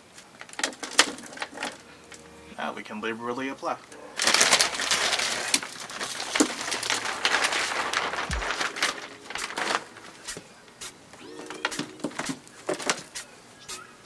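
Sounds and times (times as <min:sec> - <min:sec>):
plastic bag crinkling and rustling: 0:00.1 - 0:02.3, 0:04.2 - 0:13.3.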